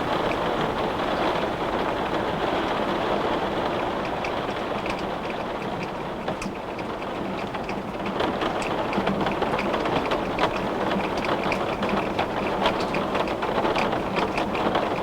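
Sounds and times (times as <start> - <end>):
heavy rain on window glass: 0.0 - 15.0.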